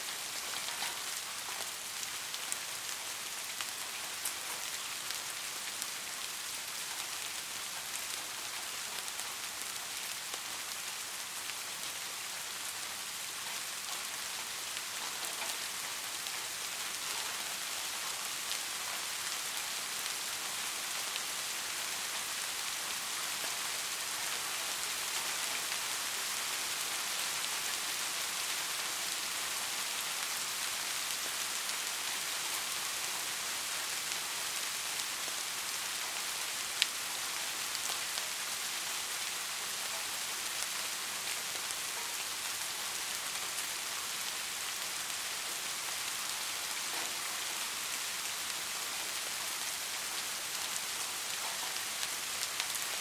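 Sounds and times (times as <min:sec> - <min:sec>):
gentle rain falling: 0:00.0 - 0:53.0.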